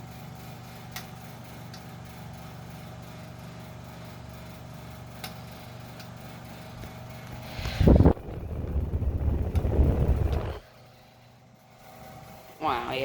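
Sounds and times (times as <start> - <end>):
table fan motor humming: 0.0 - 13.0.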